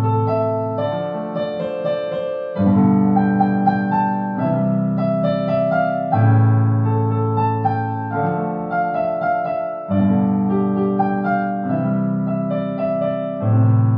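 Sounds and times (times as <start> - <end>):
slow solo piano melody: 0.0 - 13.9.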